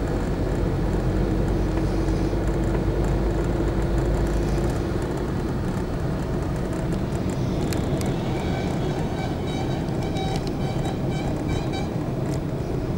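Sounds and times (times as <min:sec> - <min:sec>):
car road and engine rumble: 0:00.0 - 0:12.9
surrounding traffic: 0:00.0 - 0:12.9.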